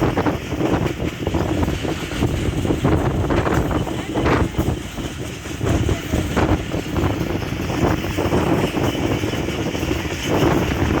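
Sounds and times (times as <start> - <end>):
train rumbling and rattling: 0.0 - 11.0
wind buffeting microphone: 0.0 - 11.0.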